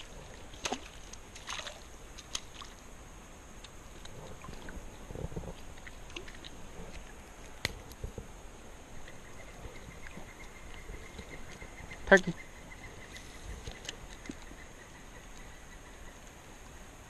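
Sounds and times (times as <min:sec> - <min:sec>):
creek water sloshing and splashing: 0:00.0 - 0:16.6.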